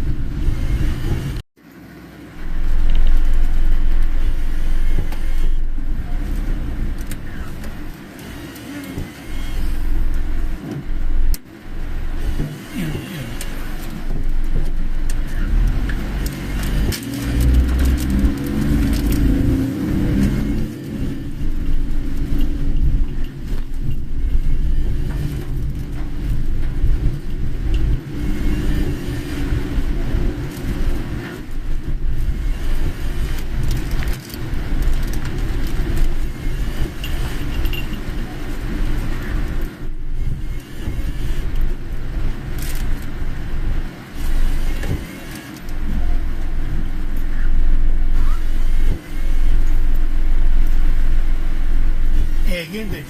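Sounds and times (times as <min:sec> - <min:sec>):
tyres and engine rumbling: 0:00.0 - 0:53.0
wet road hiss: 0:02.0 - 0:53.0.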